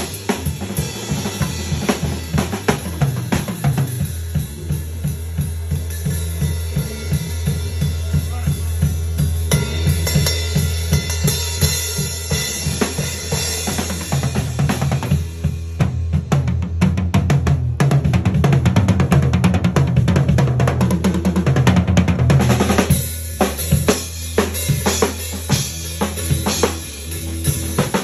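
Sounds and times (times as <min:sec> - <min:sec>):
drum kit solo: 0:00.0 - 0:28.0.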